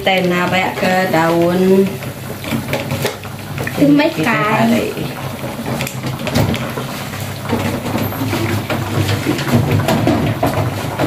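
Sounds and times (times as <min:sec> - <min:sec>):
leaves rustling into pot: 0:00.0 - 0:09.9
gas stove burner rumble: 0:00.0 - 0:11.0.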